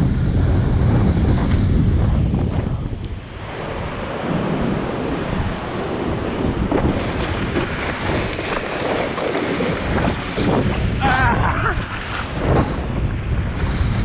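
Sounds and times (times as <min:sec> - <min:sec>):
wind buffeting microphone: 0:00.0 - 0:14.0
water rushing and splashing: 0:02.3 - 0:14.0.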